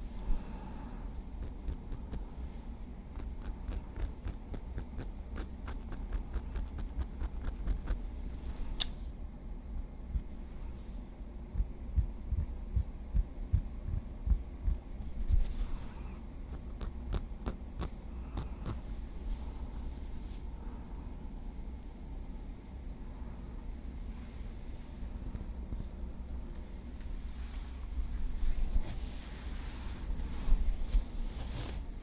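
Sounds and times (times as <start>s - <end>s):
low steady rumble: 0.0s - 32.0s.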